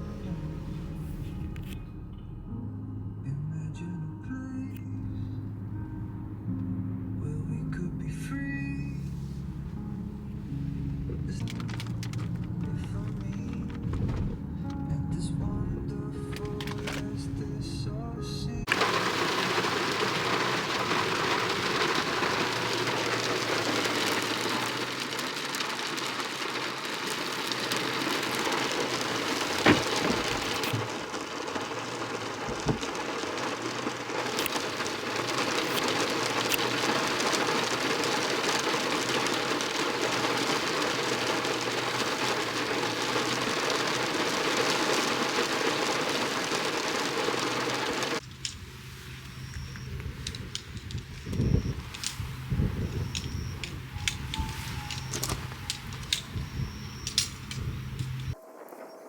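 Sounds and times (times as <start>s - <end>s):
rain falling: 9.0s - 14.8s, 16.2s - 17.5s, 18.6s - 58.9s.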